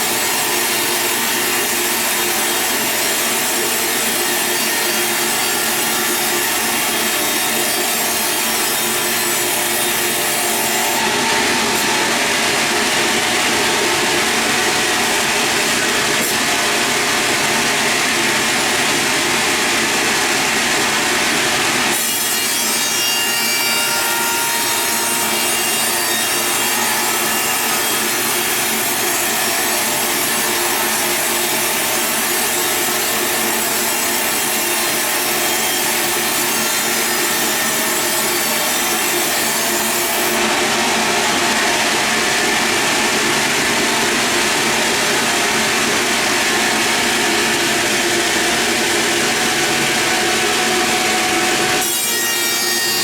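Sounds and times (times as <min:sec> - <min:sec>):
saw cutting through log: 0:00.0 - 0:53.0.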